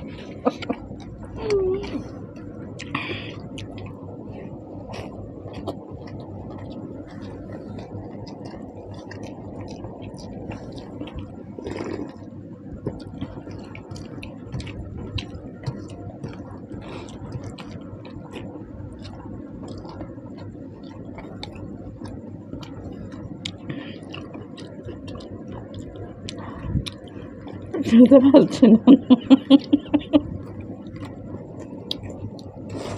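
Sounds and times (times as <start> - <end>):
people chewing wet food: 0.0 - 32.9.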